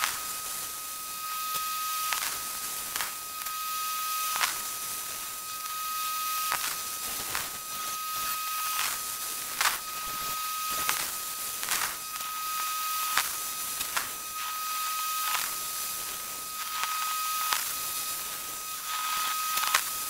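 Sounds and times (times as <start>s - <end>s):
sharp welding pops: 0.0s - 20.0s
steady high-pitched tone: 0.0s - 20.0s
welding arc hiss and crackle: 0.0s - 20.0s.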